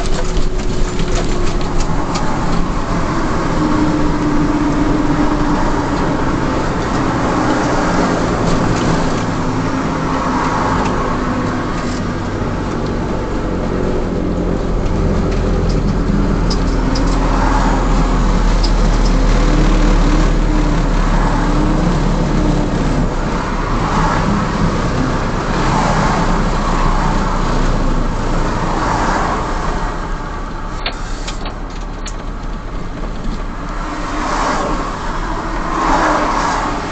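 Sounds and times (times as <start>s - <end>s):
truck engine drone in cab: 0.0s - 36.9s.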